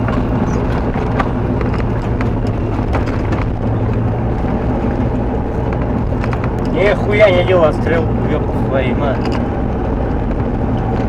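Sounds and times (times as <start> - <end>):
diesel locomotive engine drone: 0.0 - 11.0
sharp clacks and rattles: 0.0 - 11.0.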